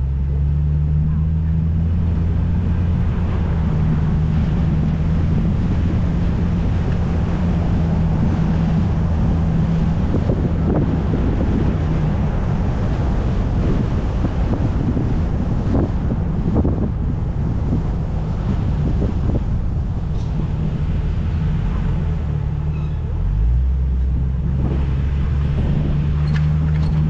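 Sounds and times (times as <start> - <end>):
low engine hum: 0.0 - 27.0
road noise: 0.0 - 27.0
wind buffeting microphone: 0.0 - 27.0.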